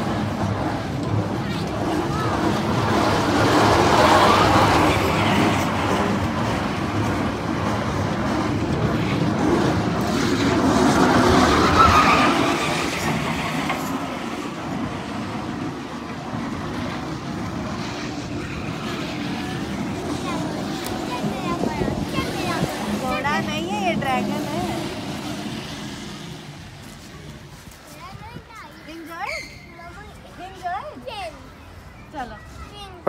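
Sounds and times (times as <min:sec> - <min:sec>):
train ride rumbling and rattling: 0:00.0 - 0:31.5.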